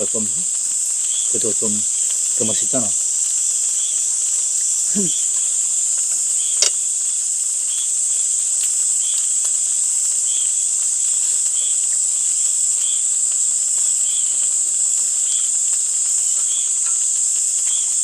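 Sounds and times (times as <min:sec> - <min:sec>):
insect chorus shrilling: 0:00.0 - 0:18.0
short insect chirp: 0:00.0 - 0:18.0.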